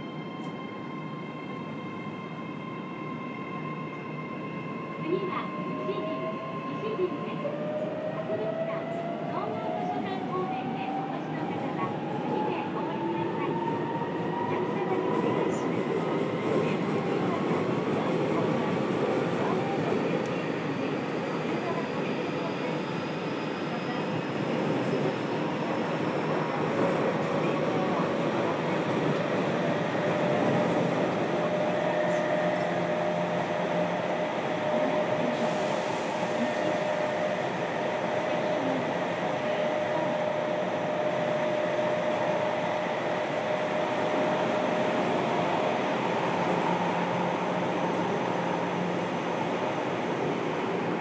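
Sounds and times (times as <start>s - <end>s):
train wheel and rail noise: 0.0s - 51.0s.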